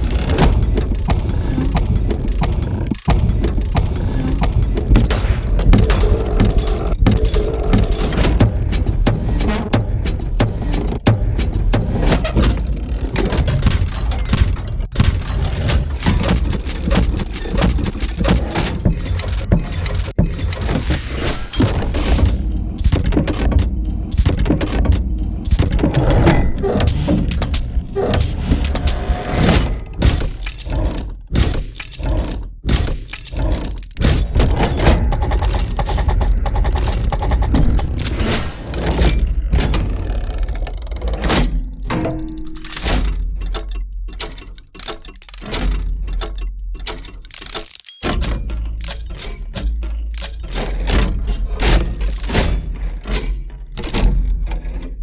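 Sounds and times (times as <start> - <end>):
machinery rattling and clanking: 0.0 - 55.0
mechanical clattering and ticking: 0.0 - 55.0.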